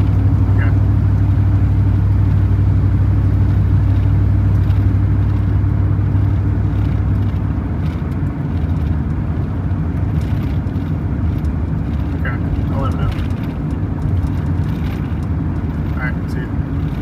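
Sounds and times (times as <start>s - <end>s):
car engine hum: 0.0s - 17.0s
road and tyre noise: 0.0s - 17.0s.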